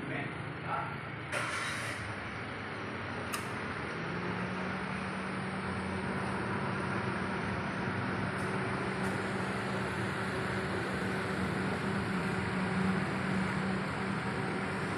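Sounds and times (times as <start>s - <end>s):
car running hum: 2.2s - 14.9s.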